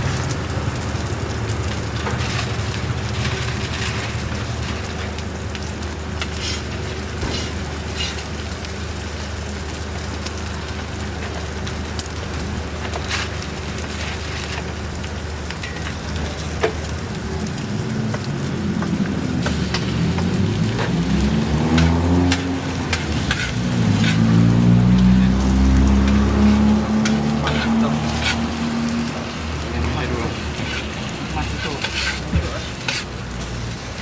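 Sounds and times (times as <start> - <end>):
burger patties sizzling on griddle: 0.0 - 34.0.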